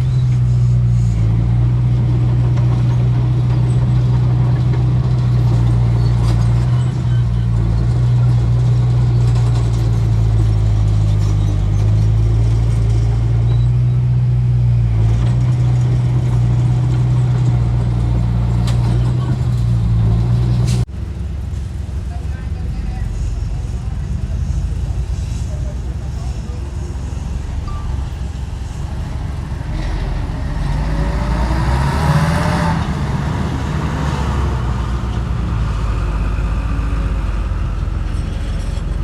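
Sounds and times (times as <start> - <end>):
heavy diesel engine droning: 0.0 - 39.0.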